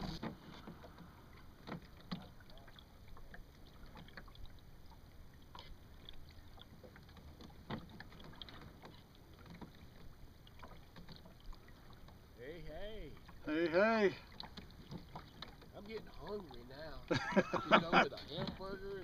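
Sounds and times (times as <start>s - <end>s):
small splashes: 0.0s - 19.0s
water lapping against hull: 0.0s - 19.0s.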